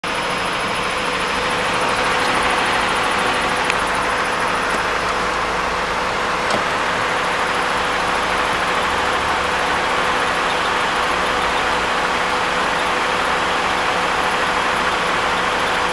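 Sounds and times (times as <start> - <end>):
car engine idling: 0.0 - 15.9
engine whine: 0.0 - 15.9.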